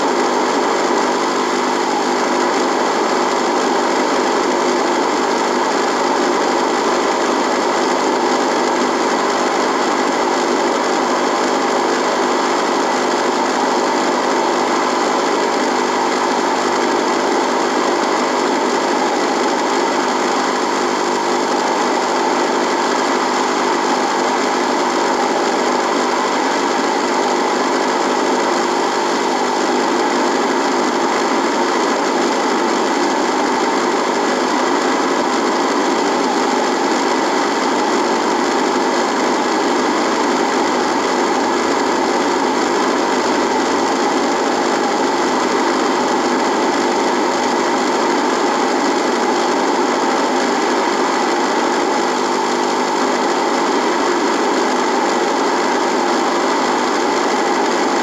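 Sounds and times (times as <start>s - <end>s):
radio electrical buzz: 0.0s - 58.0s.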